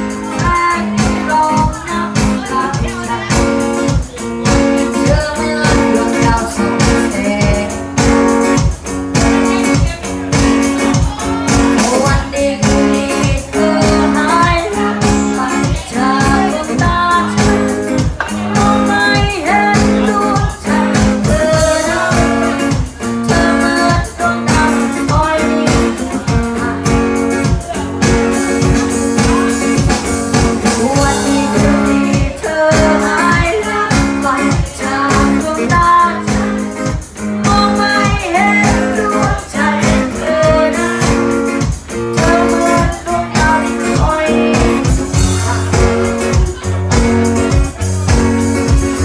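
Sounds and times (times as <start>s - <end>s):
guitar: 0.0s - 49.0s
person singing: 0.0s - 49.0s
steady drum beat: 0.0s - 49.0s.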